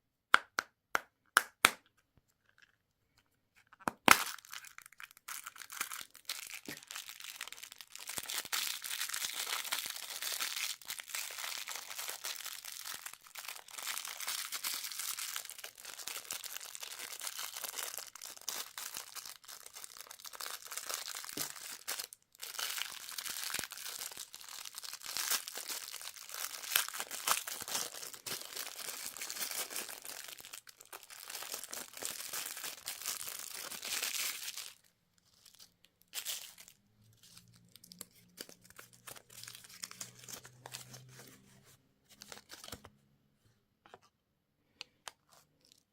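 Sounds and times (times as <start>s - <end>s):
plastic wrappers crinkling: 4.1s - 41.4s.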